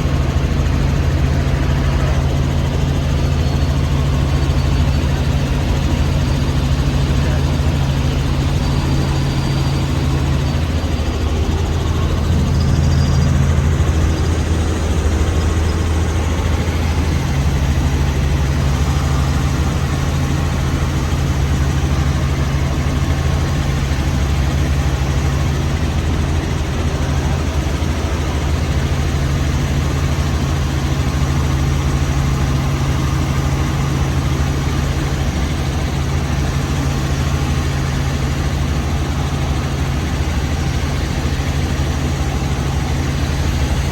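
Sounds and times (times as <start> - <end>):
helicopter engine and rotors: 0.0 - 43.9.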